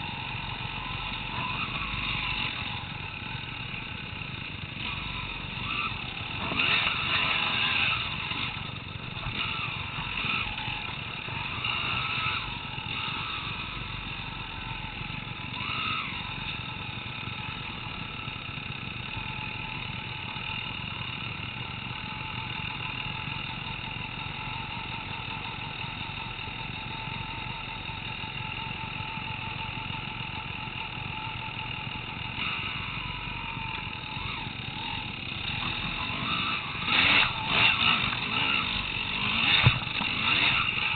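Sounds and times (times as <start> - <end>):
dirt bike engine revving: 0.0 - 23.6, 24.7 - 40.9.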